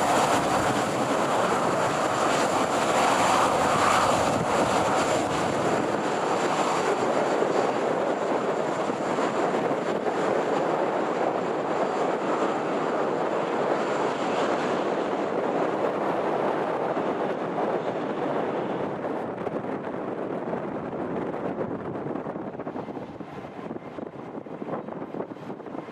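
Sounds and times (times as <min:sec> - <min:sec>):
jet engines rushing: 0:00.0 - 0:25.9.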